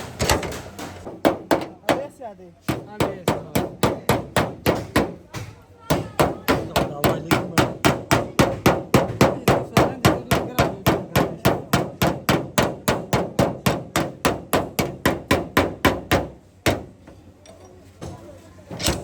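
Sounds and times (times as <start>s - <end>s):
hammer beating sheet metal: 0.0s - 17.0s.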